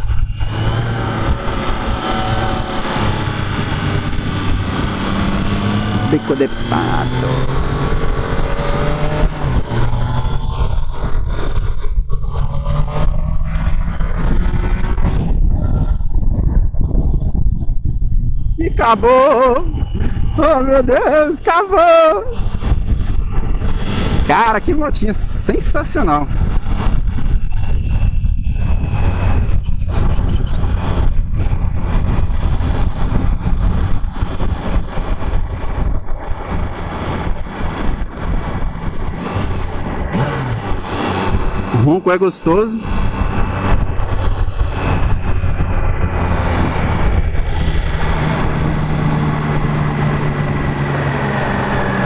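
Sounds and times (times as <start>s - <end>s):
motorcycle engine running hard: 0.0s - 52.0s
wind noise on microphone: 0.0s - 52.0s.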